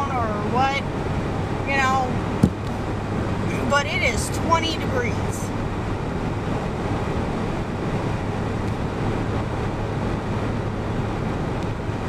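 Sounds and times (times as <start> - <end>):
road noise rushing: 0.0 - 12.0
vehicle engine drone: 0.0 - 12.0.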